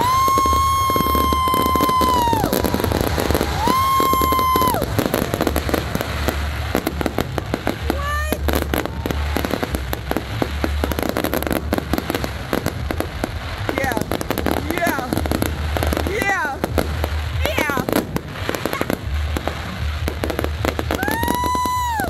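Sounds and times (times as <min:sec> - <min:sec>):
firework whistle: 0:00.0 - 0:22.0
fireworks crackling and popping: 0:00.0 - 0:22.0.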